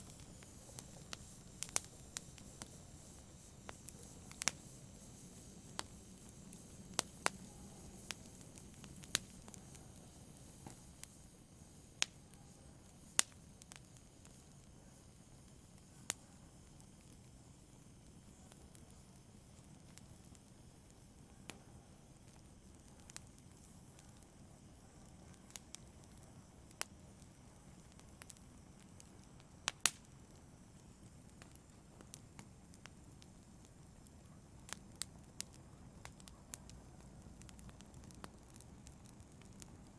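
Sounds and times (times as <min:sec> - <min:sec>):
campfire wood crackling: 0:00.0 - 0:39.9
low hiss of burning fire: 0:00.0 - 0:39.9.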